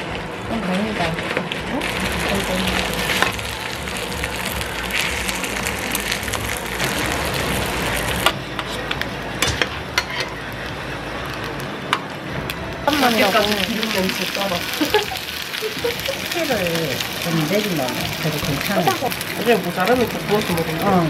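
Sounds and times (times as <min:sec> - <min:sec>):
dumplings sizzling in frying pan: 0:00.8 - 0:21.0.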